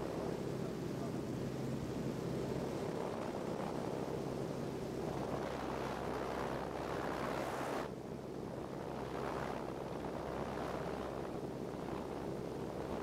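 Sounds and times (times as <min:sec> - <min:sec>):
airplane engine drone: 0:00.0 - 0:13.0
wind on microphone: 0:00.0 - 0:13.0.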